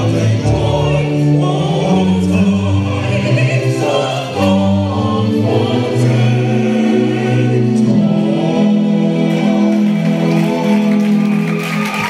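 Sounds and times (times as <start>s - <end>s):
mixed choir singing: 0.0s - 12.0s.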